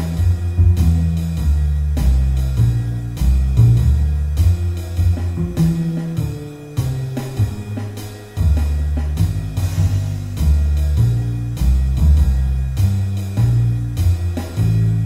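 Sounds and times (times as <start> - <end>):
drum kit swing beat: 0.0 - 15.0
walking bass: 0.0 - 15.0.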